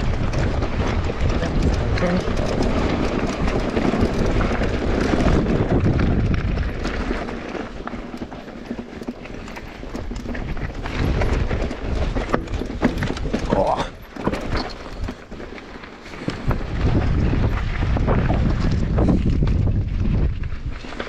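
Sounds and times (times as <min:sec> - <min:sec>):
bike rattling over bumps: 0:00.0 - 0:21.0
bike tyres rolling over dirt: 0:00.0 - 0:21.0.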